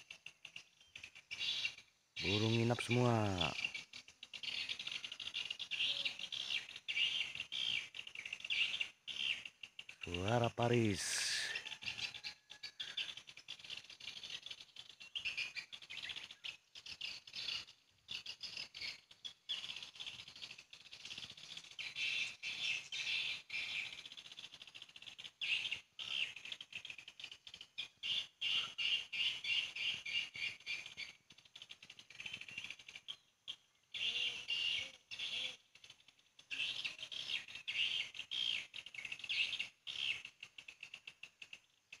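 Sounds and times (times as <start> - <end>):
birds twittering: 0.0 - 42.0.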